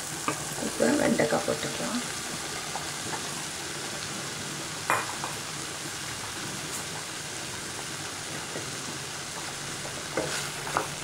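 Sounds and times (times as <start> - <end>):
okra sizzling in a pan: 0.0 - 11.0.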